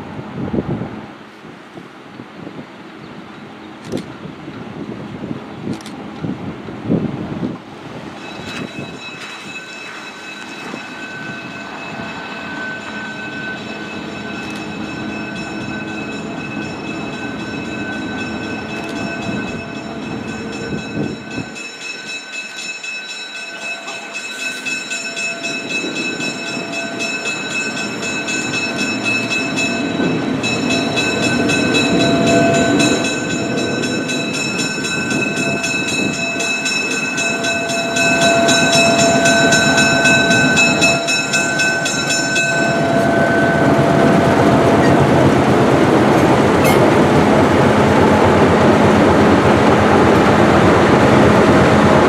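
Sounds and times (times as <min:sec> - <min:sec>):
diesel locomotive engine rumble: 0:00.0 - 0:52.0
steady high ringing: 0:08.1 - 0:52.0.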